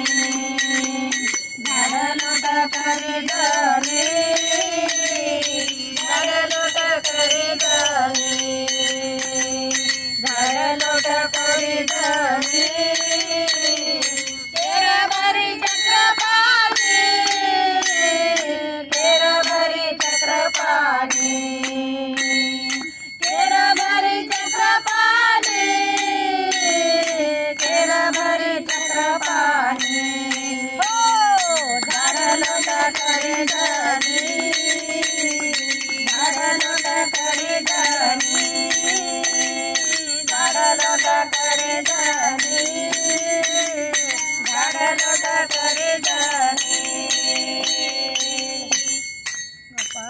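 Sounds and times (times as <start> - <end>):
hand cymbals struck: 0.0 - 50.0
women singing devotional song: 0.0 - 50.0.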